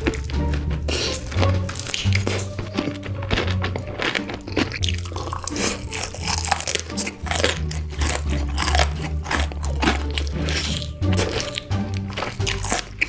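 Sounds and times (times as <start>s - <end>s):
crunchy bites and chewing: 0.0s - 13.0s.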